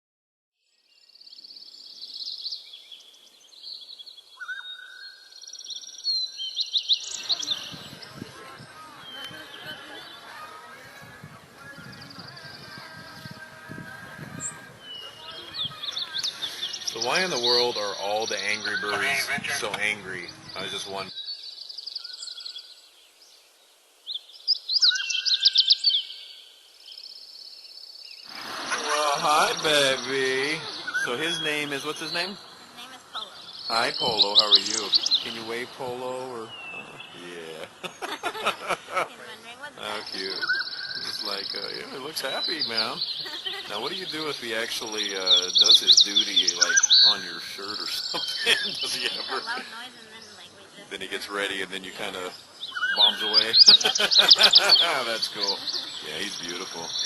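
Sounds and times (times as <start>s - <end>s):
birds chirping and trilling: 0.6s - 57.0s.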